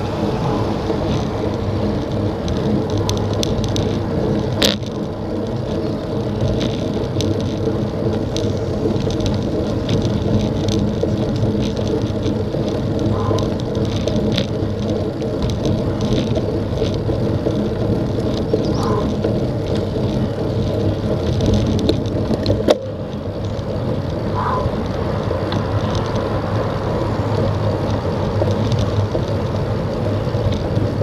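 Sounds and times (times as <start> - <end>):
bicycle rattles and ticks: 0.0 - 31.0
bicycle tyre rumble on road: 0.0 - 31.0.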